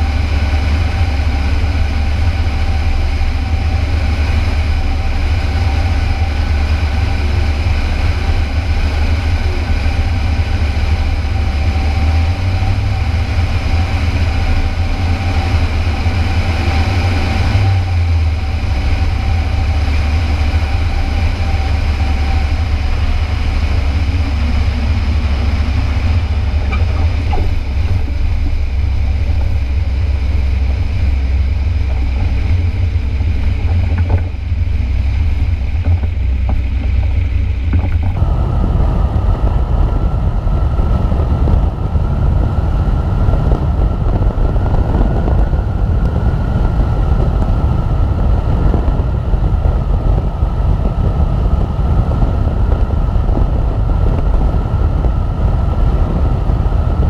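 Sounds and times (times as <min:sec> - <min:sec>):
aircraft engine and propeller: 0:00.0 - 0:57.0
high whine: 0:00.0 - 0:57.0.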